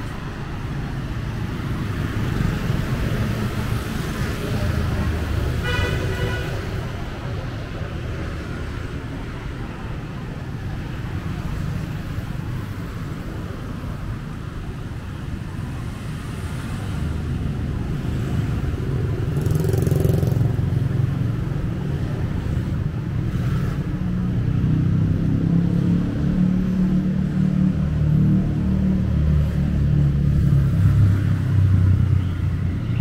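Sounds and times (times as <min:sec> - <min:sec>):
cars and motorbikes rumbling: 0:00.0 - 0:33.0.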